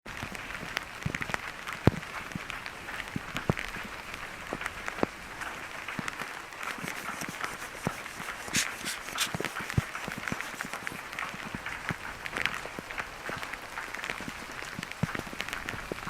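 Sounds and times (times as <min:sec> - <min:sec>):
rain falling: 0:00.1 - 0:16.0
sharp taps on wet ground: 0:01.0 - 0:15.9.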